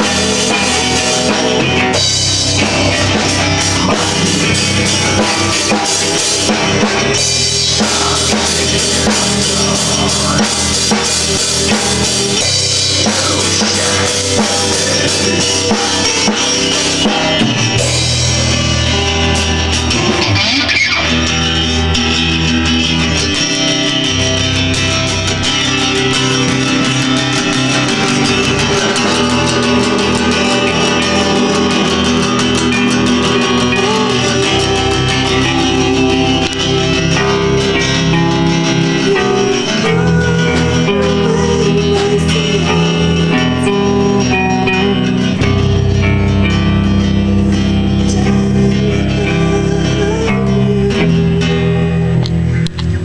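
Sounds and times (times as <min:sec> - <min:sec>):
bass guitar: 0:00.0 - 0:53.0
drum kit: 0:00.0 - 0:53.0
electric guitars: 0:00.0 - 0:53.0.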